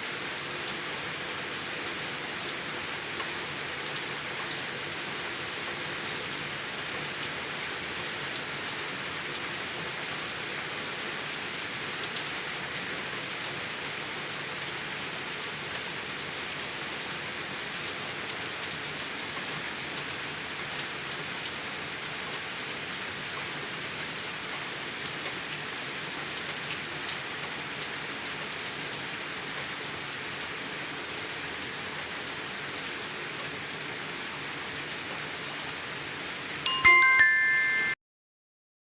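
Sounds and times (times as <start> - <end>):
steady rain: 0.0 - 37.8
rainwater running and gurgling: 0.1 - 36.7.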